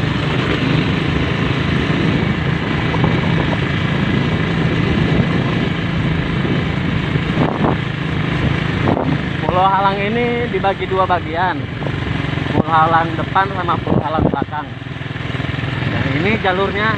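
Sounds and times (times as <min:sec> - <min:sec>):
motorcycle engine cruising: 0:00.0 - 0:16.9
wind and road noise: 0:00.0 - 0:16.9.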